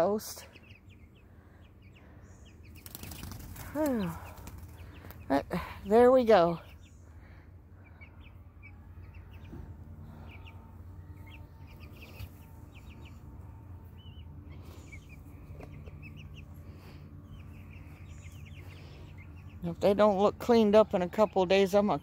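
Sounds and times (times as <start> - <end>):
chicks peeping: 0.0 - 22.0
steady low hum: 0.0 - 22.0.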